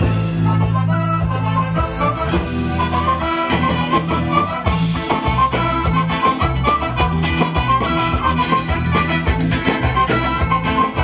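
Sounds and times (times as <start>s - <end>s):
upbeat band music: 0.0s - 11.0s.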